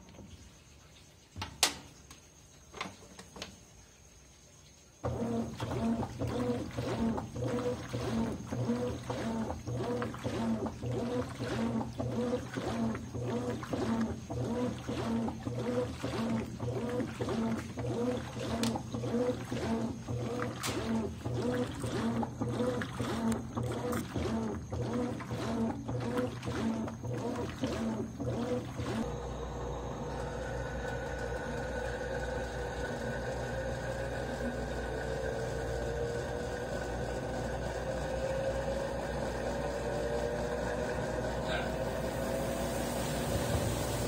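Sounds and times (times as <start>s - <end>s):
churning water: 4.9s - 44.0s
washing machine motor hum: 5.0s - 44.0s.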